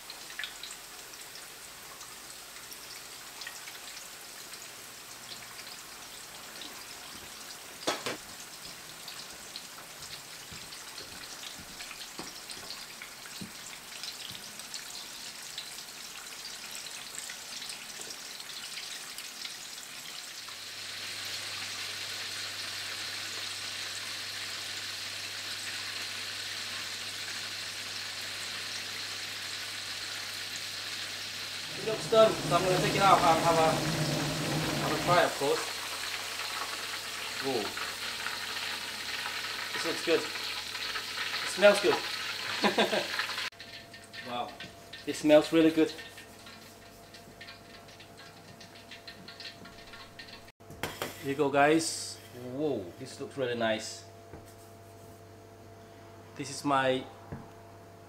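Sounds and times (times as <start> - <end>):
oil sizzling with pops: 0.0 - 51.4.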